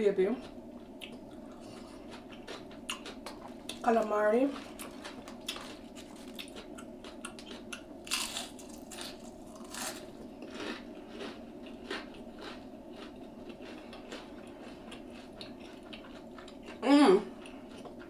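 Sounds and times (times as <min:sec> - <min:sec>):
crunchy chewing: 0:00.4 - 0:03.9, 0:04.5 - 0:18.0.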